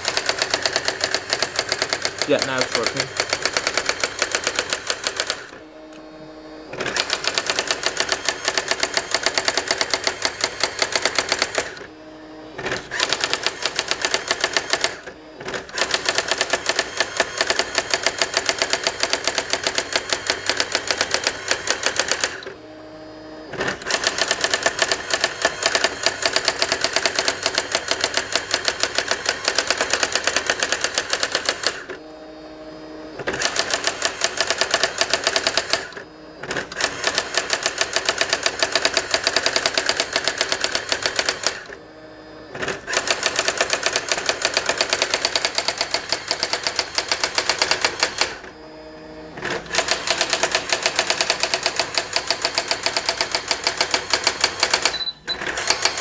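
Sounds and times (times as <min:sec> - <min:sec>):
typewriter strikes rattling: 0:00.0 - 0:05.6, 0:06.8 - 0:11.8, 0:12.6 - 0:22.5, 0:23.6 - 0:31.9, 0:33.2 - 0:41.7, 0:42.6 - 0:48.4, 0:49.4 - 0:56.0
typewriter carriage return hum: 0:00.0 - 0:11.9, 0:12.5 - 0:22.6, 0:23.4 - 0:32.0, 0:33.1 - 0:41.8, 0:42.5 - 0:48.6, 0:49.3 - 0:56.0.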